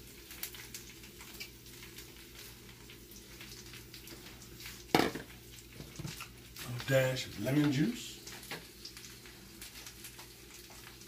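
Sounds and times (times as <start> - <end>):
greens frying in oil: 0.0 - 11.0.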